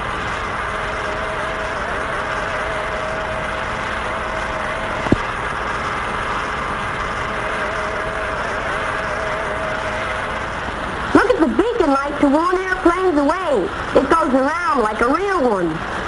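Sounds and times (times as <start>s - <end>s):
model train electric whirring hum: 0.0s - 16.0s.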